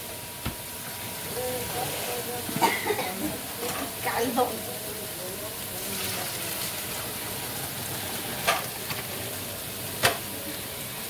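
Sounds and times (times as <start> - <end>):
sauce sizzling: 0.0 - 11.0.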